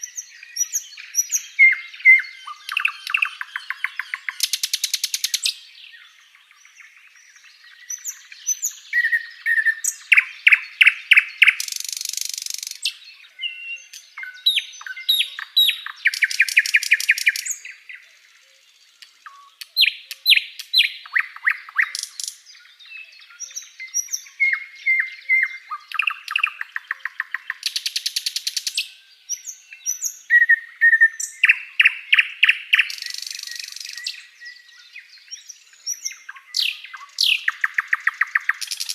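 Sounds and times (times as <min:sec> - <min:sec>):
bird singing high chirps and trills: 0:00.0 - 0:38.9.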